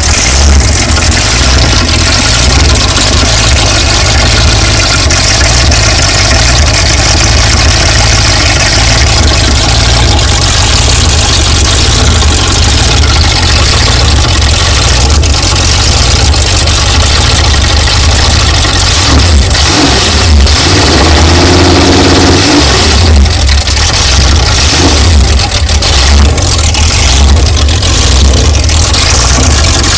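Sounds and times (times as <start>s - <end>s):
jet boat engine revving: 0.0s - 29.9s.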